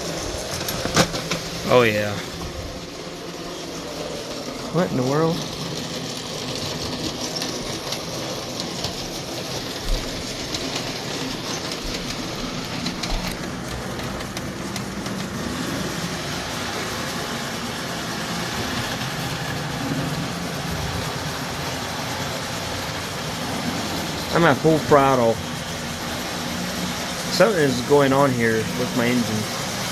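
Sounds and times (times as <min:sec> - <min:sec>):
model train motor whirring: 0:00.0 - 0:29.9
wheels rolling over rails: 0:00.0 - 0:29.9.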